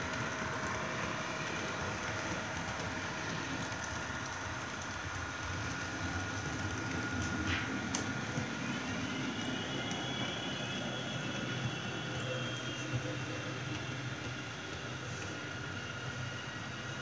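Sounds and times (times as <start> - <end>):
faint high motor whine: 0.0 - 17.0
model trains rumbling on track: 0.0 - 17.0.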